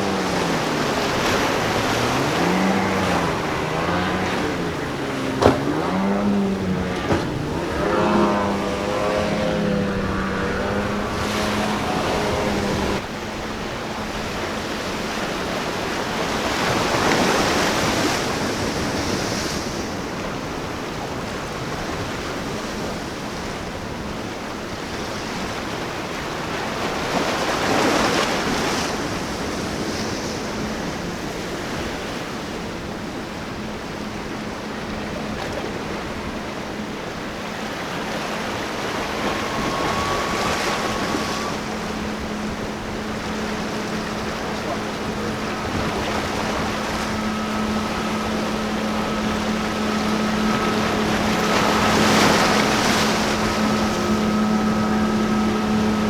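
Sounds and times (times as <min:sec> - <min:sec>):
wind on microphone: 0:00.0 - 0:22.4, 0:25.9 - 0:56.0
boat engine: 0:00.0 - 0:56.0
ocean surf: 0:00.0 - 0:56.0
waves breaking: 0:00.0 - 0:56.0.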